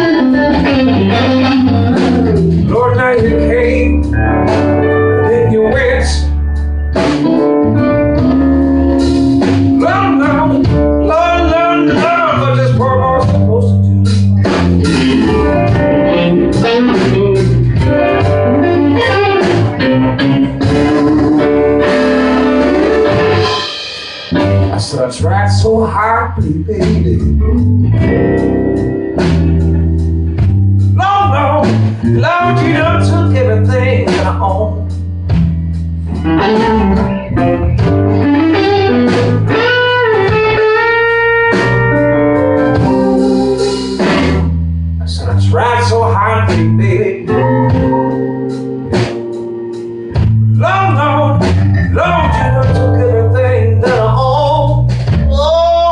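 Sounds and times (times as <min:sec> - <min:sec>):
blues guitar: 0:00.0 - 0:55.9
steady bass line: 0:00.0 - 0:55.9.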